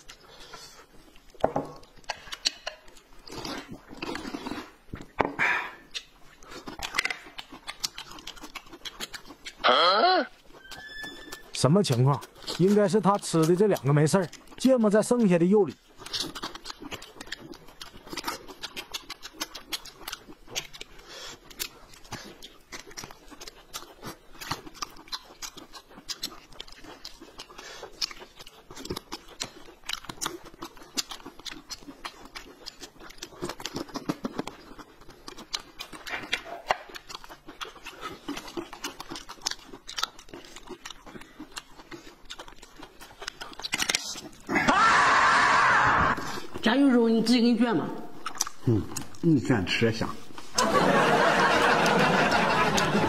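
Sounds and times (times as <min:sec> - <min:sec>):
wet mouth clicks: 0:00.0 - 0:44.5, 0:48.0 - 0:49.4
people chewing and biting: 0:00.0 - 0:53.0.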